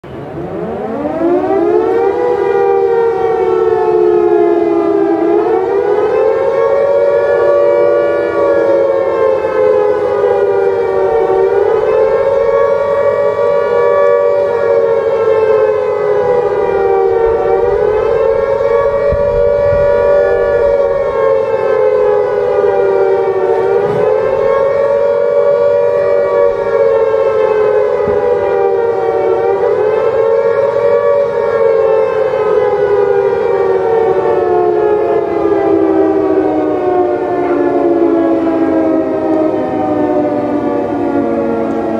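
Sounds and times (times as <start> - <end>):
warning siren wailing: 0.0 - 41.9.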